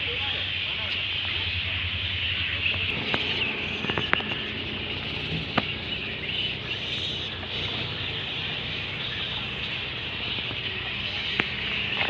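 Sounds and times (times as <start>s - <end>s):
birds chirping: 0.0s - 12.0s
high outdoor hiss: 0.0s - 12.0s.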